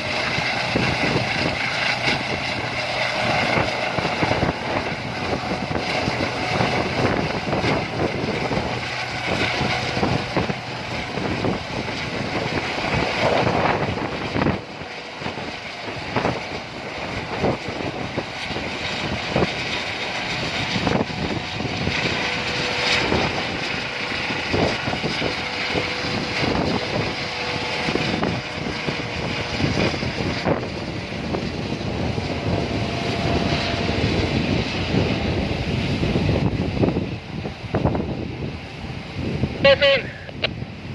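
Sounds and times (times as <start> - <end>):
helicopter rotor and engine: 0.0 - 40.9
wind buffeting microphone: 0.0 - 40.9.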